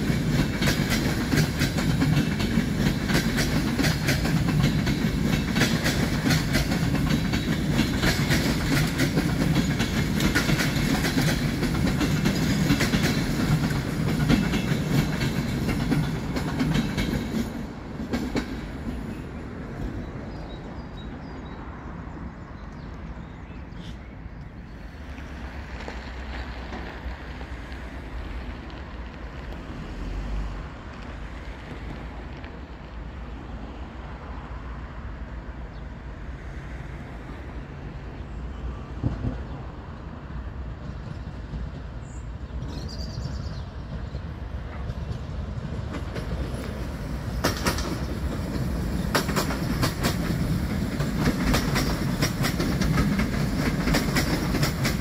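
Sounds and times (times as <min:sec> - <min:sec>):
train wheels clickety-clack: 0:00.0 - 0:21.6, 0:25.0 - 0:33.0, 0:38.9 - 0:55.0
train rumbling: 0:00.0 - 0:55.0.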